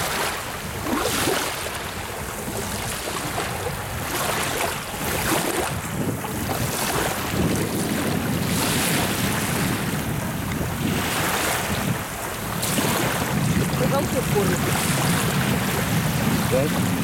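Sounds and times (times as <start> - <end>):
river waves lapping on a shore: 0.0 - 17.0.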